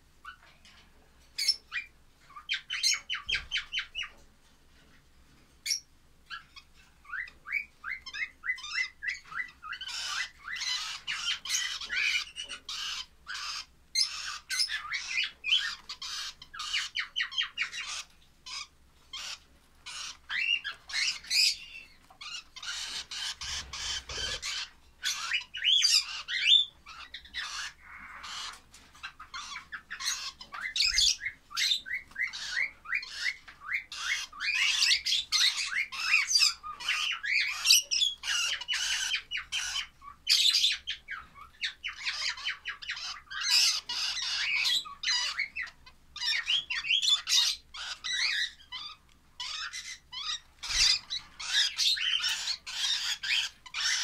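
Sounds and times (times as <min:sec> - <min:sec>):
chicks squeaky begging calls: 0:01.4 - 0:04.2, 0:05.7 - 0:54.0.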